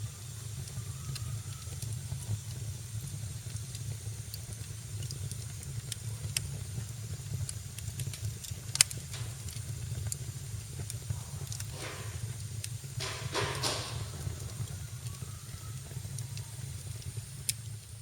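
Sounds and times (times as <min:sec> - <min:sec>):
fire crackling: 0:00.0 - 0:18.0
fire hissing: 0:00.0 - 0:18.0
fire popping: 0:00.0 - 0:18.0.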